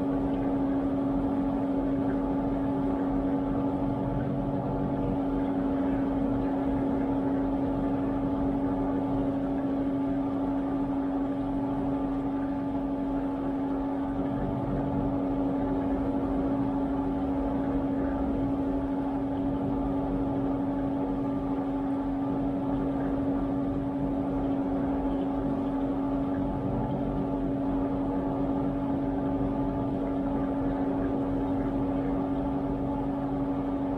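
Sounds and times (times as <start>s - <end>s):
dishwasher pump humming: 0.0s - 33.9s.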